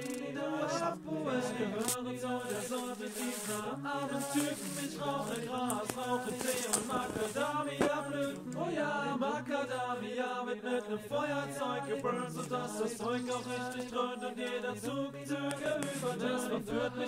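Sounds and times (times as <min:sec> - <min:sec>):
song with choir-like chanting: 0:00.0 - 0:17.0.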